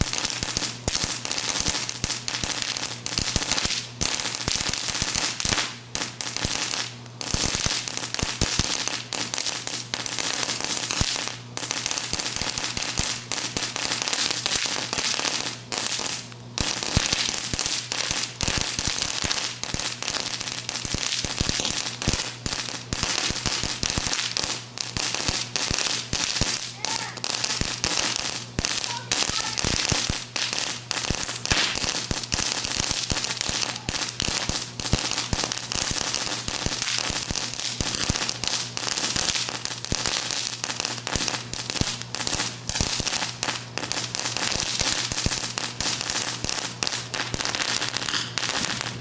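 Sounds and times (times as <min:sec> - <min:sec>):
firecrackers popping: 0:00.0 - 0:49.0.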